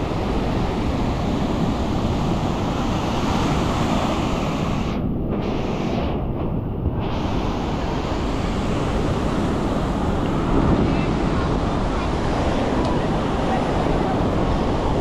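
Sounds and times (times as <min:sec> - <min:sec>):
waves on beach: 0:00.0 - 0:15.0
wind rumbling on microphone: 0:00.0 - 0:15.0.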